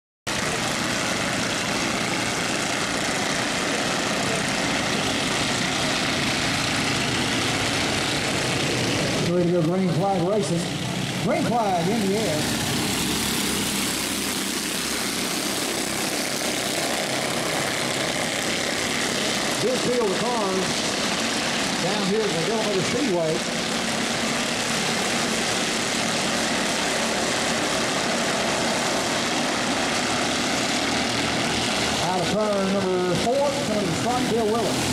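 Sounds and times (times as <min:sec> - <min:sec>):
race car engines droning: 0:00.3 - 0:34.9.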